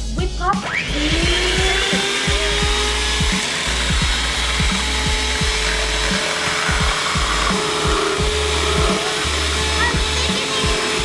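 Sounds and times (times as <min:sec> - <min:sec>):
electric hand mixer whipping cream: 0:00.6 - 0:11.0.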